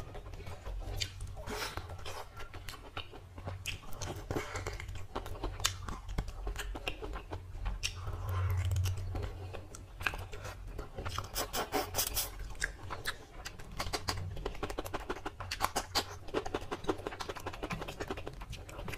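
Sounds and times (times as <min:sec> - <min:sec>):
chewing with lip smacks: 0:00.0 - 0:18.9
fingers squishing food: 0:00.0 - 0:18.9
low steady hum: 0:00.0 - 0:18.9.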